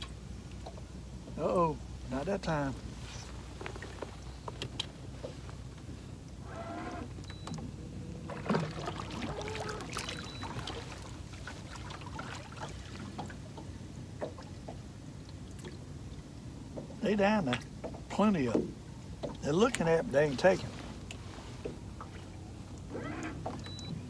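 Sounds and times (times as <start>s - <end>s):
water lapping against boat hull: 0.0s - 24.0s.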